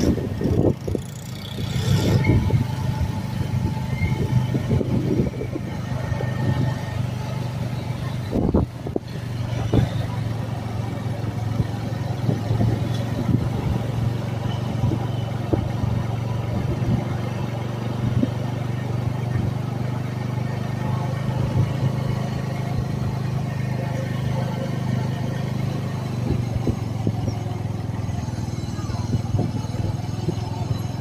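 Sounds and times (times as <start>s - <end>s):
road and wind noise: 0.0s - 31.0s
vehicle engine humming: 0.0s - 31.0s.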